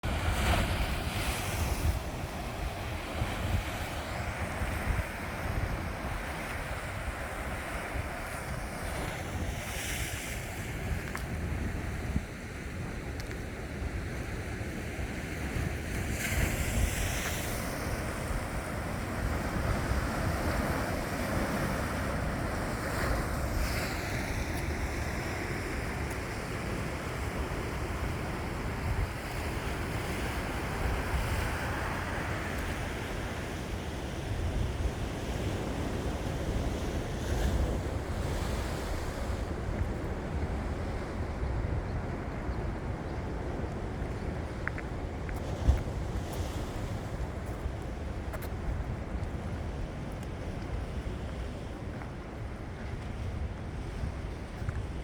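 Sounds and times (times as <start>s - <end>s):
sea waves washing on shore: 0.0s - 55.0s
wind buffeting microphone: 0.0s - 55.0s.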